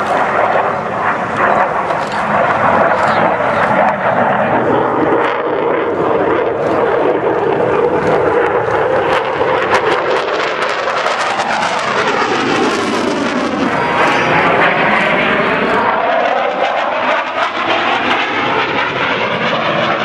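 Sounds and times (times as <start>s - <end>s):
jet engines roaring with crackle: 0.0s - 20.0s.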